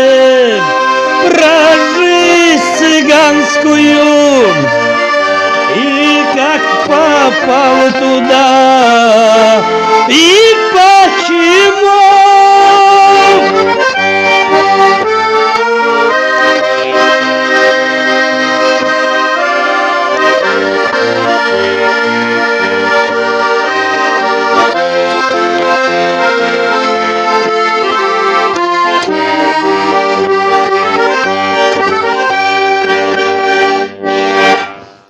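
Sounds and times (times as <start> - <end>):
accordion melody: 0.0 - 35.0
rhythmic bass line: 0.5 - 35.0.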